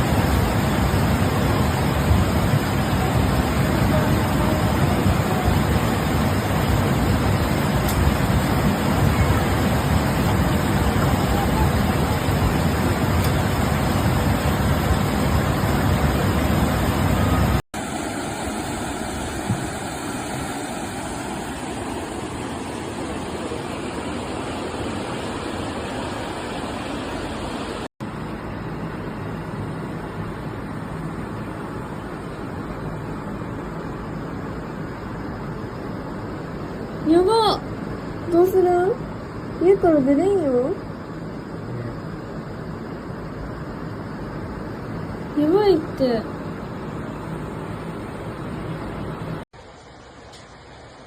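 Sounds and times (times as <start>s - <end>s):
water rushing: 0.0s - 51.0s.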